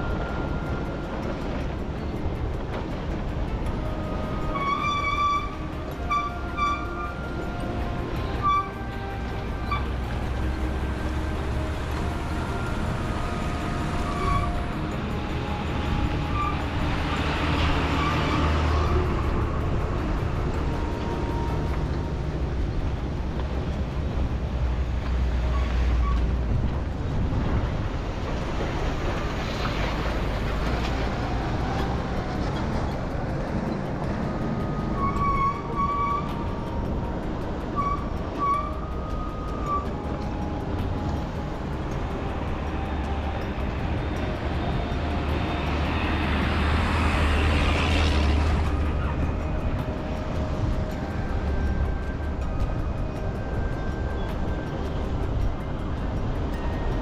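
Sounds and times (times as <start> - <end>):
rushing noise: 0.0 - 57.0
vehicle engine and road noise: 0.0 - 57.0.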